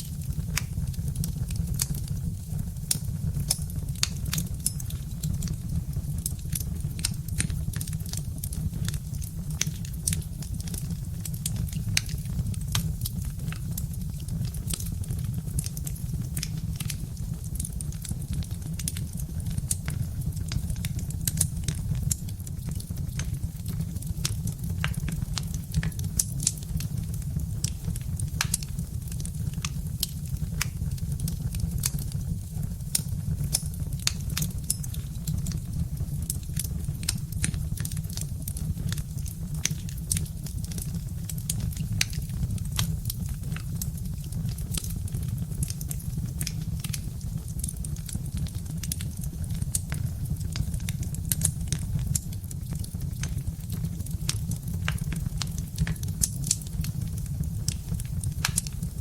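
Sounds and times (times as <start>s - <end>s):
low fire rumble: 0.0s - 59.0s
wood fire crackling: 0.0s - 59.0s.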